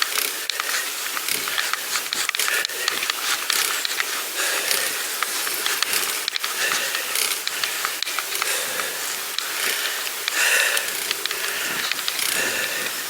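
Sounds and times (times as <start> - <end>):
bicycle freewheel ratchet clicking: 0.0 - 13.0
steady hiss: 0.0 - 13.0.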